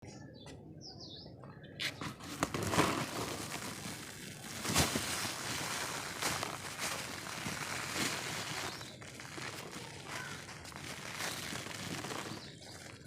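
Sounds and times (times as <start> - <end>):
dirt clumps crunching: 1.8 - 13.0.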